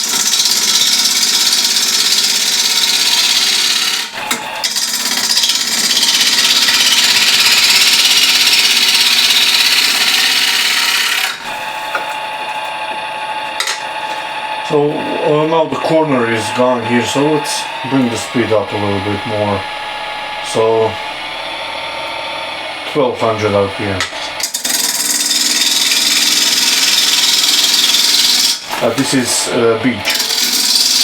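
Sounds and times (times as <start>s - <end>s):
gouge cutting spinning wood: 0.0s - 31.0s
wood lathe humming: 0.0s - 31.0s.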